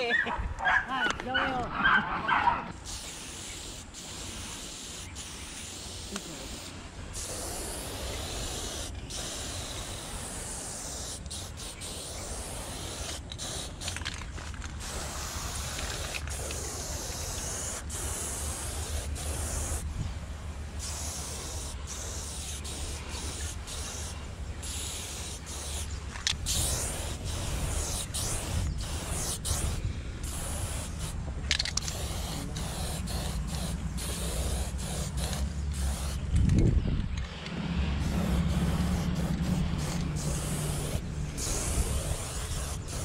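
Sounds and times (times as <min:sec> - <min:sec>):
spray paint can hissing: 0:02.8 - 0:19.9, 0:20.6 - 0:36.4, 0:38.0 - 0:43.0.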